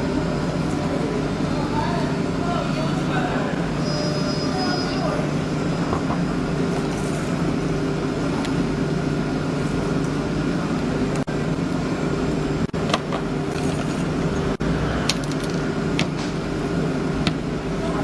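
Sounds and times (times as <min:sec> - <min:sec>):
woodworking machinery humming: 0:00.0 - 0:18.0.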